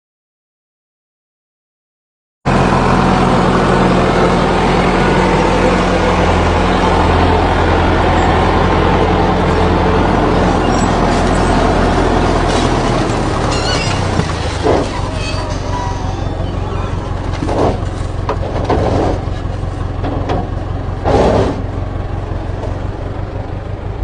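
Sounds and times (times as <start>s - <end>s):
heavy engine humming: 2.5s - 24.0s.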